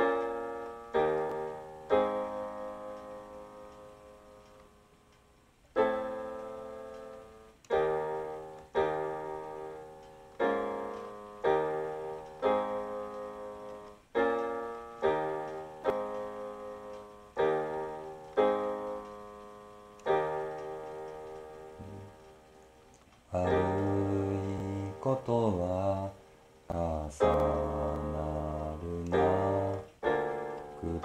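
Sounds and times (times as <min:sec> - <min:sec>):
electronic keyboard chords: 0:00.0 - 0:31.0.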